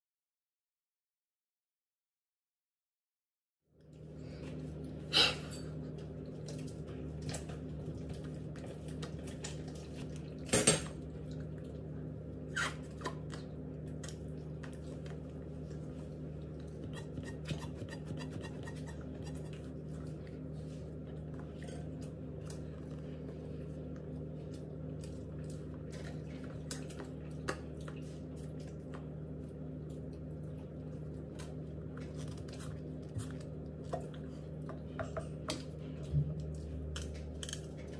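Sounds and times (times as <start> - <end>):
steady low hum: 3.8 - 37.9.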